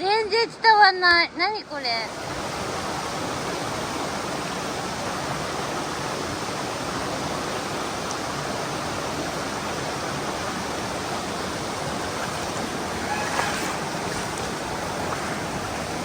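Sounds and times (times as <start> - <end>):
stream water rushing over rocks: 2.0 - 16.0.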